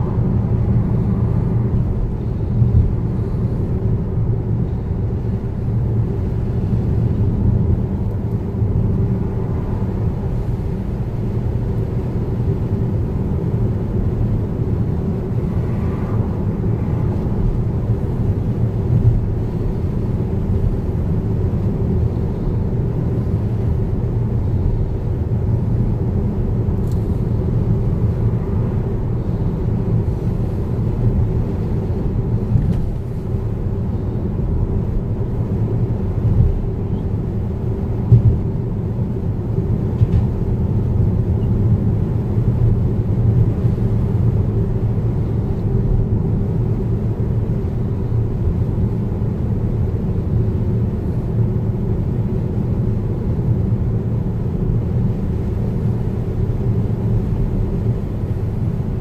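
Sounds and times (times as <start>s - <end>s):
car driving low rumble: 0.0s - 59.0s.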